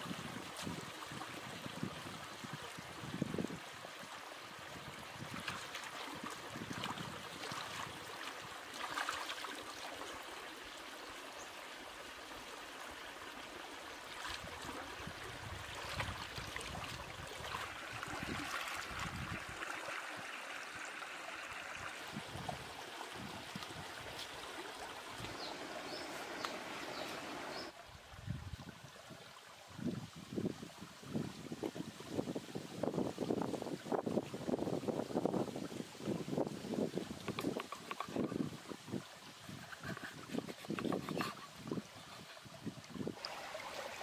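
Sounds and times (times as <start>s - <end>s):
stream trickling over rock: 0.0s - 44.0s.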